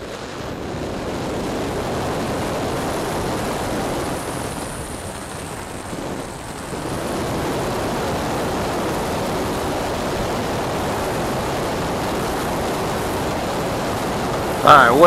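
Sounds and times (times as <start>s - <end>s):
model airplane propeller rushing: 0.0s - 15.0s.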